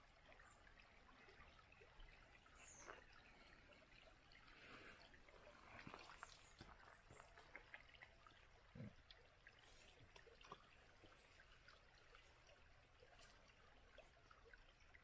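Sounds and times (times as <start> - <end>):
river water over rocks: 0.0 - 15.0.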